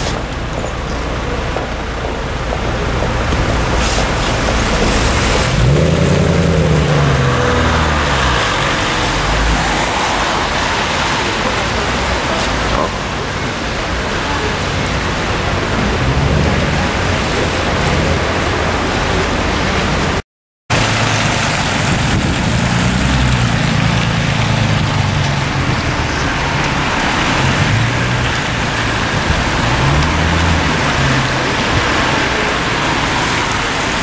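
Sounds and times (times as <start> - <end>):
car engine rumble: 0.0 - 34.0
rain hissing: 0.0 - 34.0
tyres on wet tarmac: 0.0 - 34.0.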